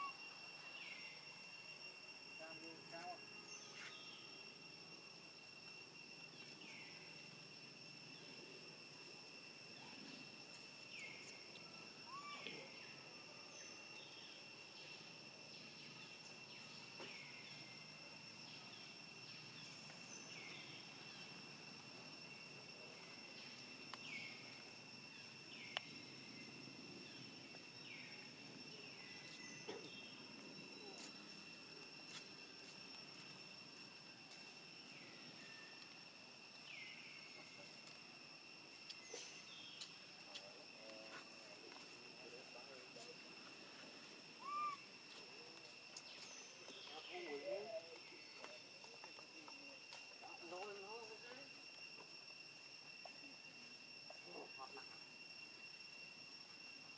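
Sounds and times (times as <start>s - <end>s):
insects trilling: 0.0s - 56.9s.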